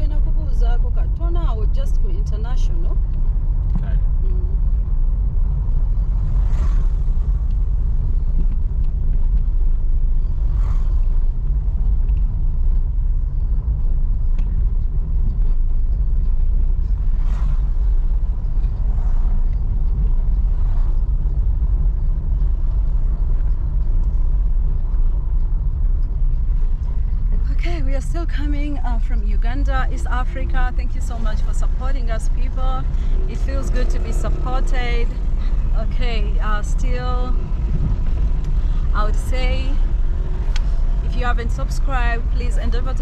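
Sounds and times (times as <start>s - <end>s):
car interior rumble: 0.0s - 43.0s.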